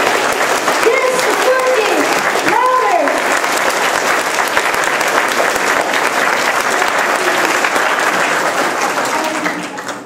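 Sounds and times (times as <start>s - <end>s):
audience applause: 0.0s - 10.0s.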